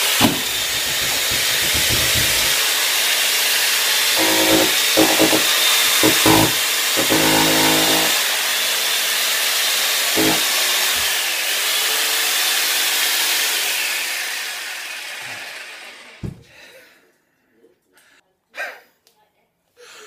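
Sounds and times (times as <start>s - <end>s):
power drill running: 0.0s - 16.1s.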